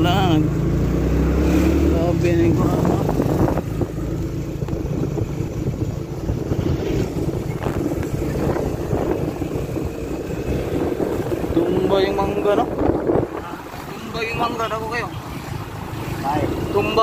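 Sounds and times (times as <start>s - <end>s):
motorcycle engine hum: 0.0s - 17.0s.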